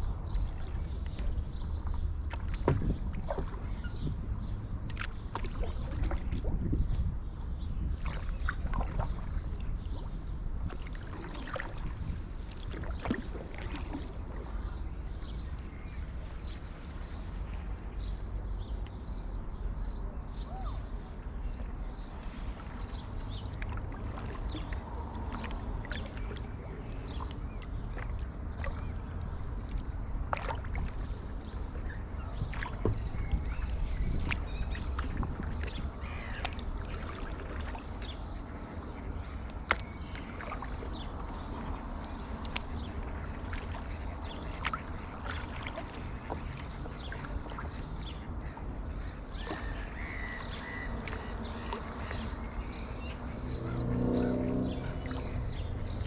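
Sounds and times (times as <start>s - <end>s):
paddle splashing in water: 0.0s - 56.0s
wind rumble on microphone: 0.0s - 56.0s.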